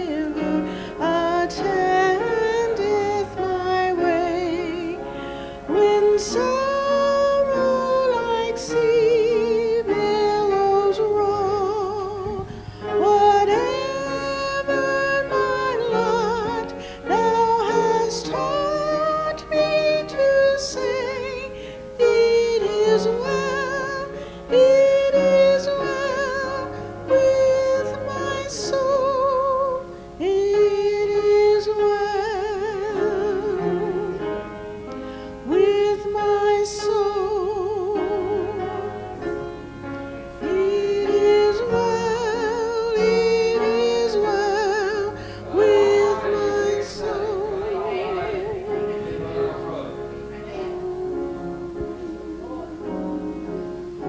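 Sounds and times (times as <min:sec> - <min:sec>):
woman singing with vibrato: 0:00.0 - 0:34.5, 0:35.4 - 0:39.4, 0:40.4 - 0:49.2, 0:50.3 - 0:54.0.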